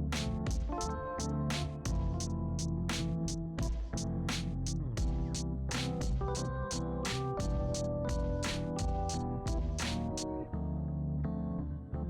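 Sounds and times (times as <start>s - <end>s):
background music with steady beat: 0.0s - 10.4s.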